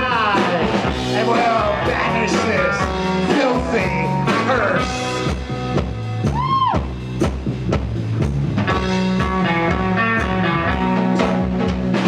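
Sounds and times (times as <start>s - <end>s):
electric guitar: 0.0s - 7.3s, 8.5s - 12.0s
bass guitar: 0.0s - 12.0s
drums keeping a steady beat: 0.0s - 12.0s.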